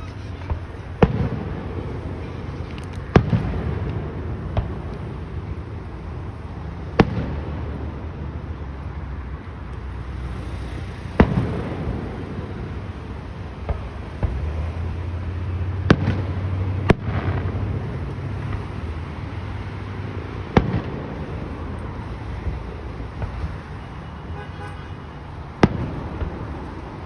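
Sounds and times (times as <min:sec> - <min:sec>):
fireworks booming: 0:00.0 - 0:08.4, 0:09.9 - 0:27.0.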